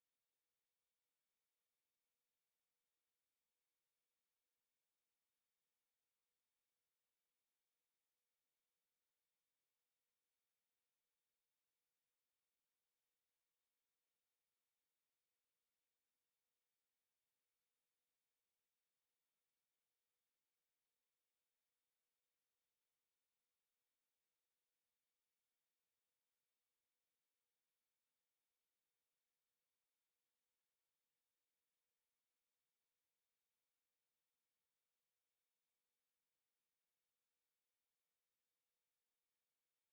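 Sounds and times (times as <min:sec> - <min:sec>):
high-pitched sine test tone: 0:00.0 - 0:39.9.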